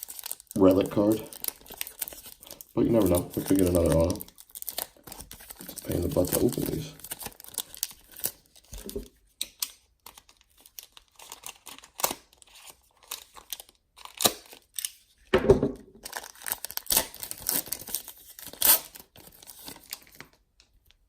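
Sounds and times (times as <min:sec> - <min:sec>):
wrapper tearing and crinkling: 0:00.0 - 0:15.3, 0:16.0 - 0:20.4.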